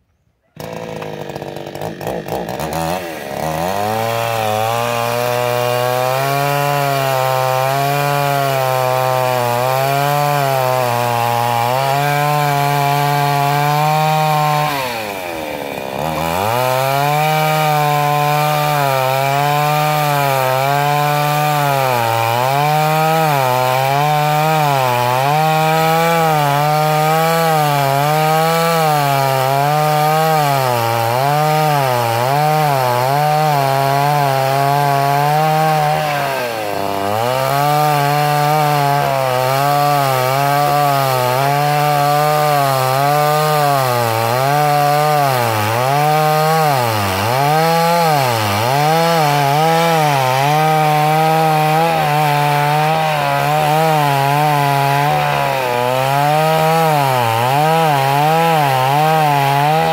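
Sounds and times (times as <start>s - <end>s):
chainsaw cutting wood: 0.4s - 59.9s.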